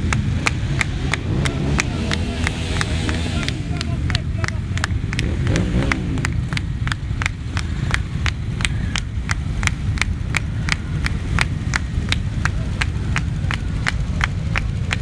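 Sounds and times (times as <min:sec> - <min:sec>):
motorcycle engines rumbling: 0:00.0 - 0:15.0
rhythmic hand-clapping: 0:00.0 - 0:15.0.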